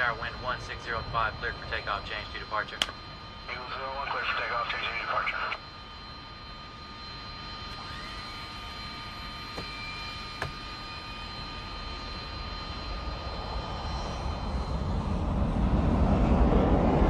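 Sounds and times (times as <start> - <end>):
military jet taking off: 0.0 - 6.2, 6.8 - 17.0.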